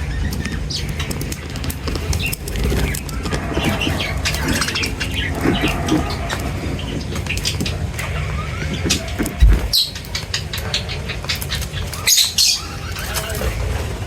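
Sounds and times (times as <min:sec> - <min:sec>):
birds chirping and chattering: 0:00.0 - 0:14.0.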